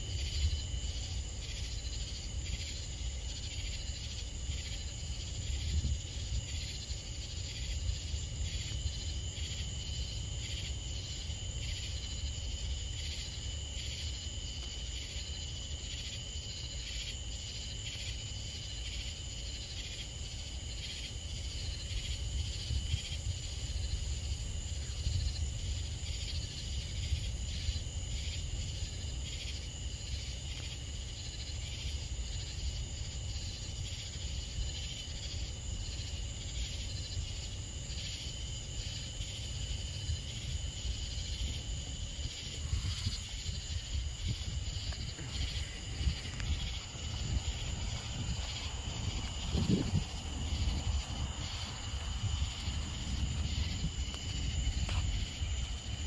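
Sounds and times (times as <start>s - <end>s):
night insects singing: 0.0s - 56.0s.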